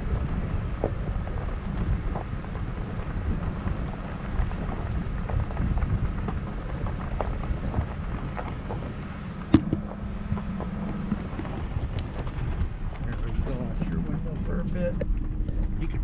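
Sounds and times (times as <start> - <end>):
small stones ticking: 0.0 - 16.0
tyres rumbling on gravel: 0.0 - 16.0.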